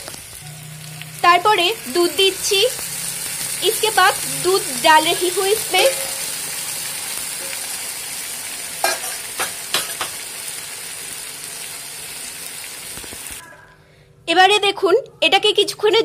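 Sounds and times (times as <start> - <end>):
food sizzling in a hot pan: 0.0 - 13.4.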